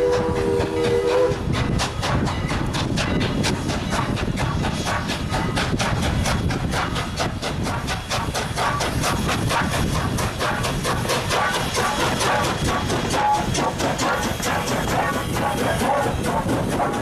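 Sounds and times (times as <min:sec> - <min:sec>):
steam locomotive chugging: 0:00.0 - 0:17.0.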